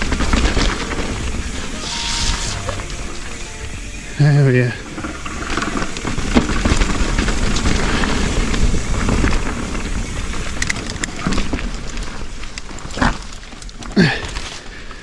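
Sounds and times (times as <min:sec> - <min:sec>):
bike clicks and rattles: 0:00.0 - 0:01.7, 0:04.6 - 0:15.0
tyre noise on dirt: 0:00.0 - 0:14.8.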